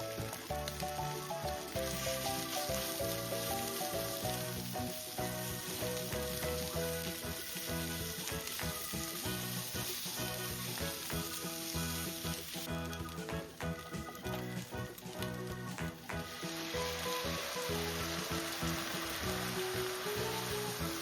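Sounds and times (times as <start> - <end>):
background music with melody: 0.0 - 21.0
meat and onions sizzling in oil: 0.0 - 21.0.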